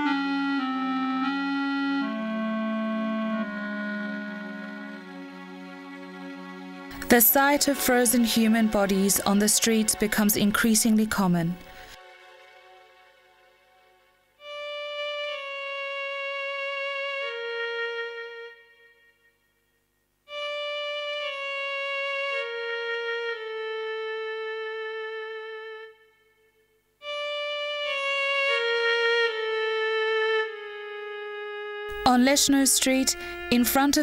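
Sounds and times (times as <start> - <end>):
solo violin slow melody: 0.0 - 18.9, 20.3 - 26.4, 27.0 - 33.8.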